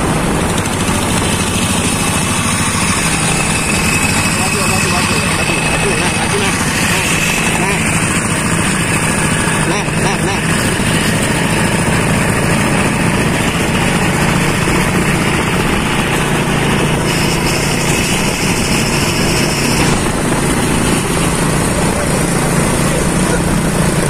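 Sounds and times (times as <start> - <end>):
diesel motorcycle engine running: 0.0 - 24.0
other motorcycle engines: 0.0 - 24.0
road noise: 0.0 - 24.0.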